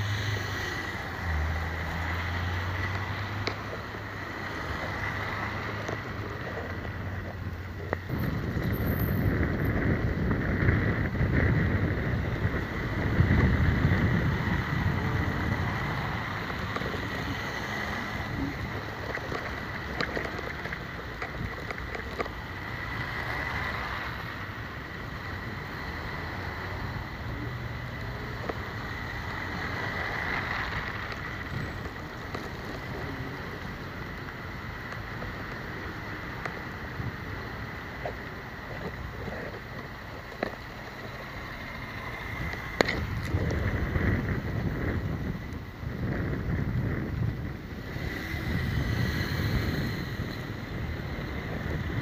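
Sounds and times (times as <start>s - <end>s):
engine and tyre rumble: 0.0s - 52.0s.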